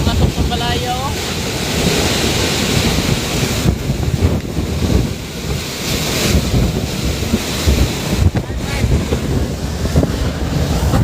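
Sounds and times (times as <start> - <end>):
driving rain: 0.0 - 11.0
gusting wind: 0.0 - 11.0
wind buffeting microphone: 0.0 - 11.0.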